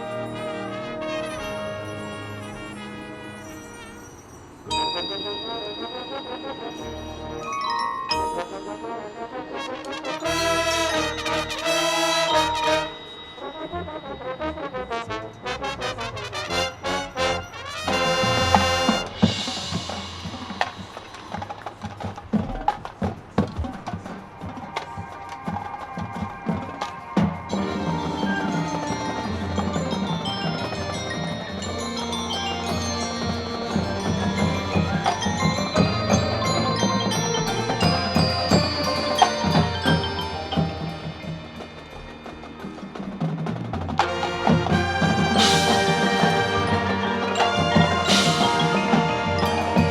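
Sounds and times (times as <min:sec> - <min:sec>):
marching band brass playing: 0:00.0 - 0:07.6, 0:08.2 - 0:21.7, 0:24.4 - 0:49.9
marimba and glockenspiel notes: 0:00.0 - 0:21.9, 0:24.4 - 0:49.9.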